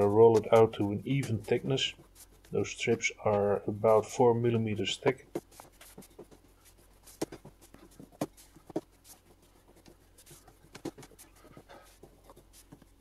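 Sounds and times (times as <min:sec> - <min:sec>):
rolling pin rolling over dough: 0:00.0 - 0:13.0.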